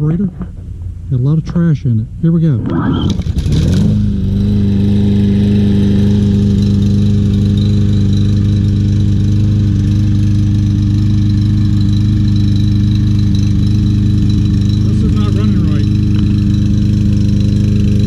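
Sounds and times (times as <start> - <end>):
lawn mower engine running rough: 3.0 - 18.0.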